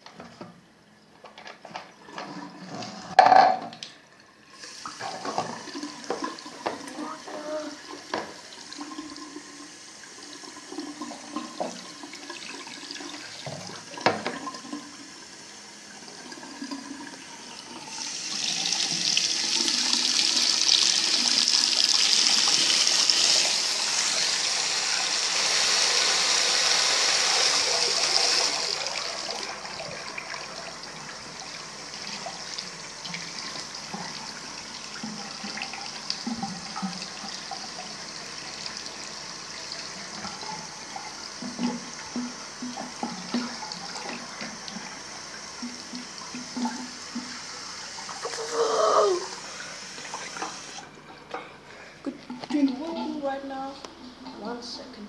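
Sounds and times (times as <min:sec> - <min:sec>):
tap water running into sink: 0:04.6 - 0:51.0.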